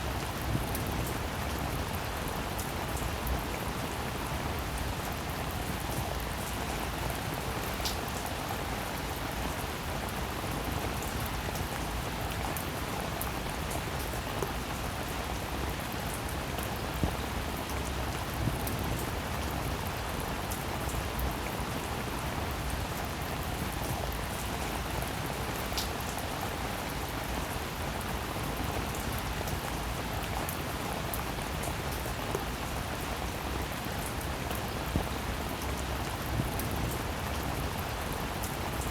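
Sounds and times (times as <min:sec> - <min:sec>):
rain falling: 0:00.0 - 0:38.9
raindrops: 0:00.0 - 0:38.9.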